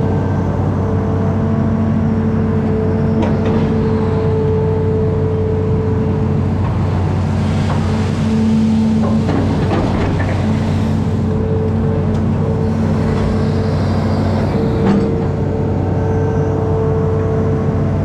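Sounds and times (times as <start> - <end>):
diesel engine running: 0.0 - 18.0
machine whine: 2.5 - 17.2.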